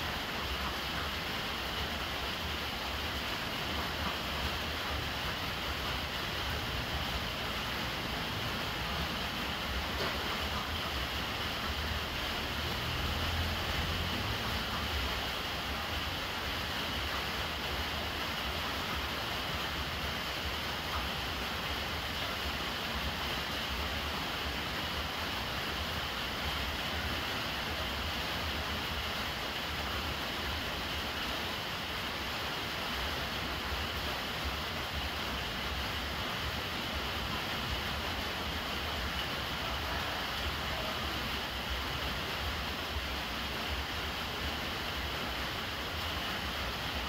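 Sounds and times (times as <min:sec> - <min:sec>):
rain falling on water: 0:00.0 - 0:47.0
water stream from downpipe: 0:00.0 - 0:47.0.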